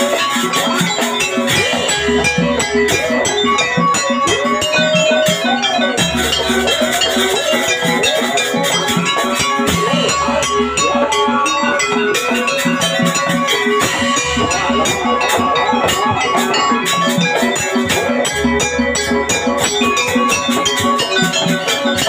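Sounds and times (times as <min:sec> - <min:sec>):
hand drum strokes: 0:00.0 - 0:22.0
metallophone and gong tones: 0:00.0 - 0:22.0
wavering melody line: 0:00.0 - 0:22.0.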